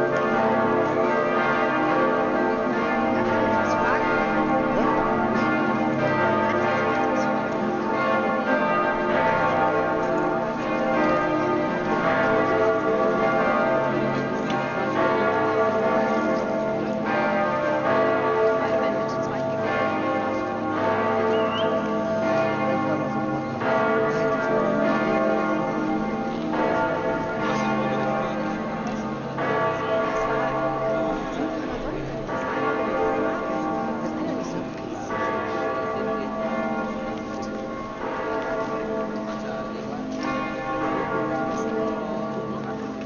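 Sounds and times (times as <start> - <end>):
church bells pealing: 0.0 - 43.0.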